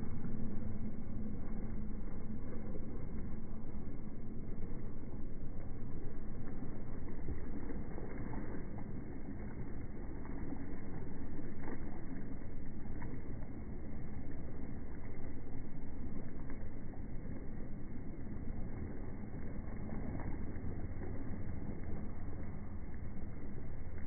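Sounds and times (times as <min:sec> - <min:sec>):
boat motor rumble: 0:00.0 - 0:24.0
wind: 0:00.0 - 0:24.0.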